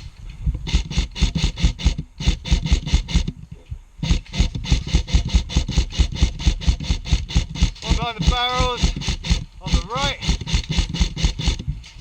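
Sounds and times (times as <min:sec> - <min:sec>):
airsoft rifle rapid fire: 0:00.7 - 0:03.3, 0:04.0 - 0:11.6.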